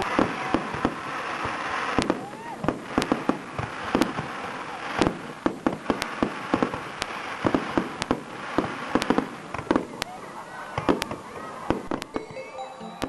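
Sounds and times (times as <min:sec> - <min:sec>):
fireworks hiss: 0:00.0 - 0:12.2
fireworks bangs: 0:00.0 - 0:12.5.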